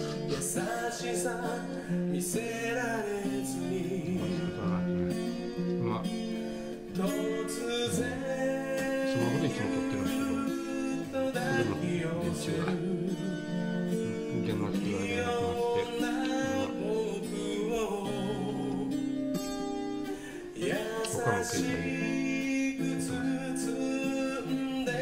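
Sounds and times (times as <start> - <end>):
man singing: 0.0 - 6.2, 6.9 - 19.2, 20.0 - 25.0
acoustic guitar: 0.0 - 25.0.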